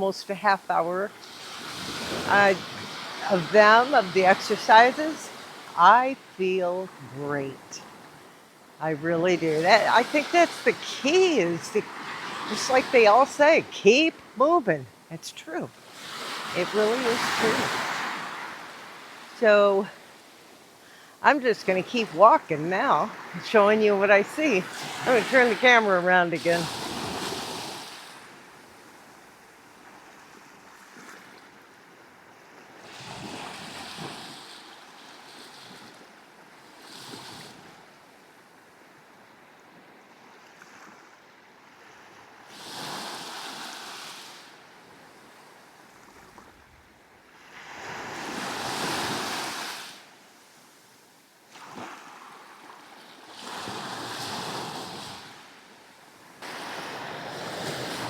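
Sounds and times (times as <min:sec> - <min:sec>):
small waves washing up a beach: 0:00.0 - 0:58.0.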